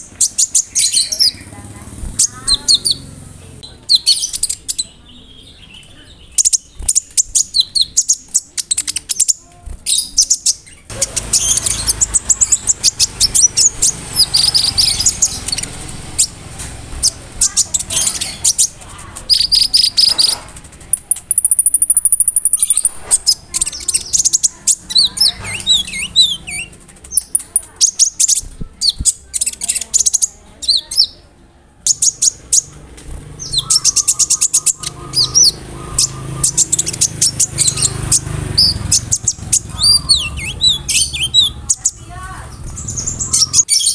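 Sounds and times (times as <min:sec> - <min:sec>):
very high bird trill: 0:00.0 - 0:31.2, 0:31.8 - 0:43.9
bird singing chirps and trills: 0:00.0 - 0:43.9.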